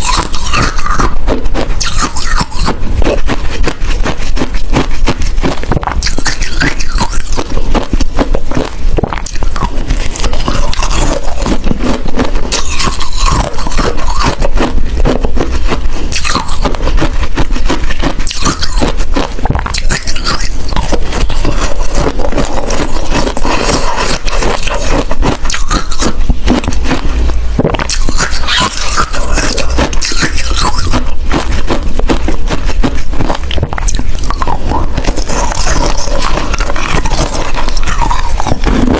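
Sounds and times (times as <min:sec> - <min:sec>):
person chewing ice cubes: 0:00.0 - 0:38.9.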